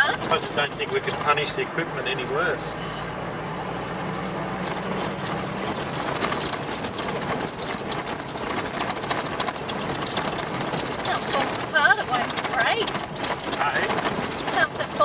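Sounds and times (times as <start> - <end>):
vehicle body rattling over bumps: 0.0 - 15.0
vehicle engine hum: 0.0 - 15.0.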